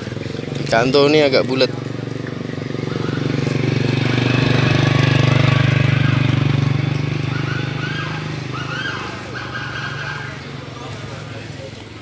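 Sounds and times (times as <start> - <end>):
vehicle engine pulsing: 0.0 - 12.0.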